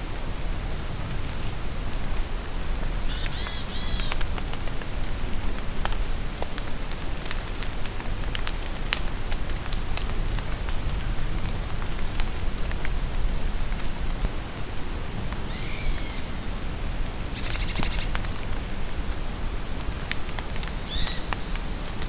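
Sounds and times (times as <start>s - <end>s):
steady rain in forest: 0.0s - 22.0s.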